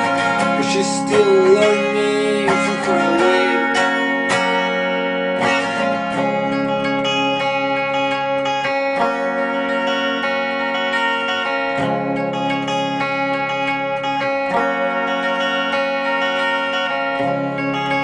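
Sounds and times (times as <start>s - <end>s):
electric guitar strumming chords: 0.0s - 18.0s
wavering held guitar note: 0.0s - 18.0s.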